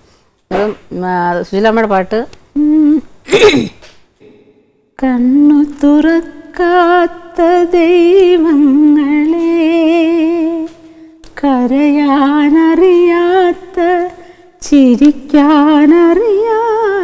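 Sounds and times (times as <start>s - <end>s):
woman singing unaccompanied: 0.5s - 3.1s, 5.0s - 17.0s.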